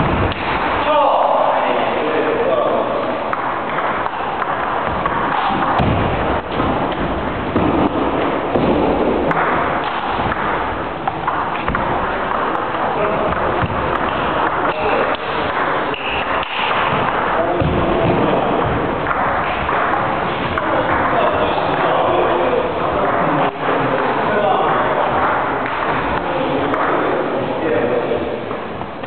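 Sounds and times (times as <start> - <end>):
steady background din: 0.0 - 29.0.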